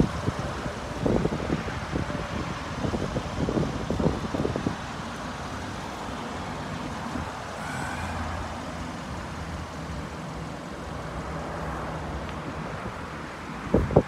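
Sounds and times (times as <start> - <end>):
road traffic hum: 0.0 - 14.0.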